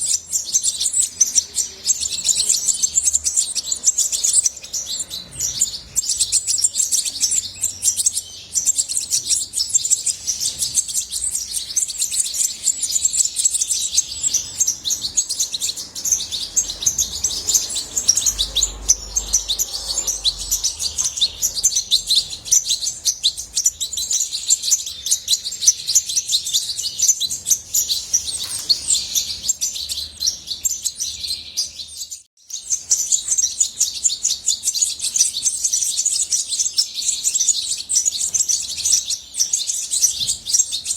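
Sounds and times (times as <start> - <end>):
finch singing: 0.0 - 40.9.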